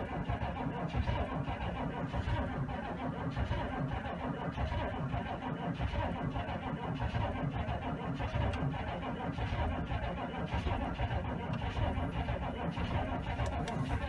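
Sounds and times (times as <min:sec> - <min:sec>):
diesel engine cranking unevenly: 0:00.0 - 0:14.0.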